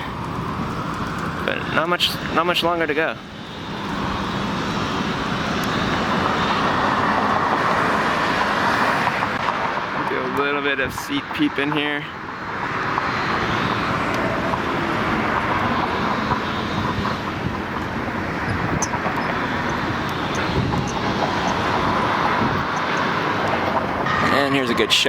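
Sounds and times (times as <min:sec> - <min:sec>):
vehicles rushing by: 0:00.0 - 0:25.0.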